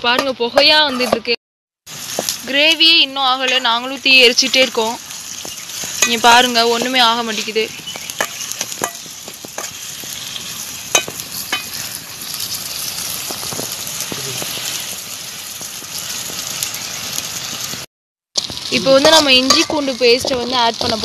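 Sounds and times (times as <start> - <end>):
onion and tomato sizzling: 0.0 - 21.0.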